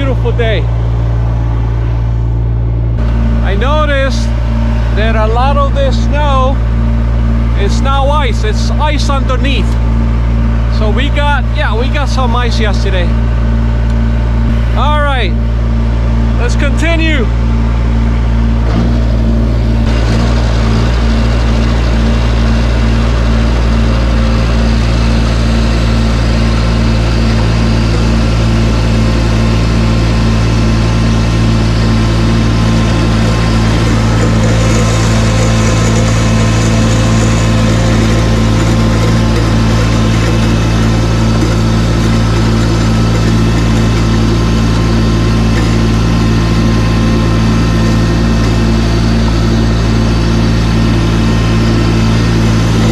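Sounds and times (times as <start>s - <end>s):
snow blower rushing: 0.0s - 52.9s
tractor engine humming: 0.0s - 52.9s.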